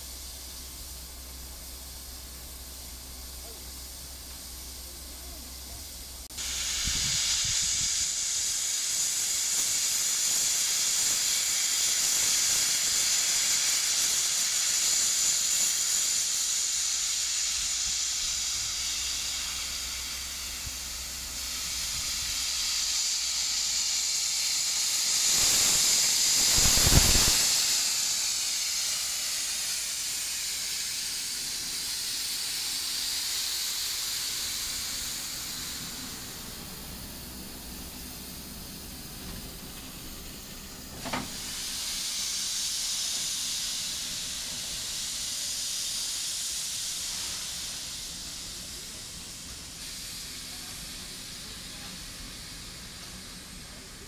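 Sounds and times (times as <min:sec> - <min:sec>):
steam hissing from locomotive: 0:00.0 - 0:54.0.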